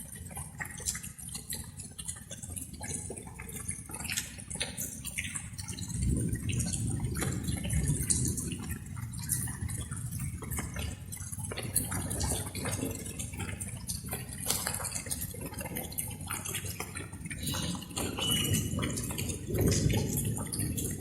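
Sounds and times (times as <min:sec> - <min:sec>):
light rain dripping: 0:00.0 - 0:21.0.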